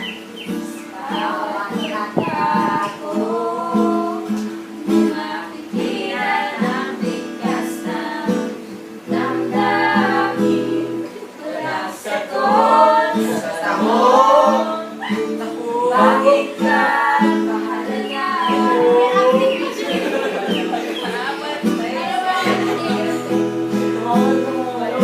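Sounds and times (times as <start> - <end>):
person singing slow melody: 0.0 - 25.0
strummed and plucked guitar: 0.0 - 25.0.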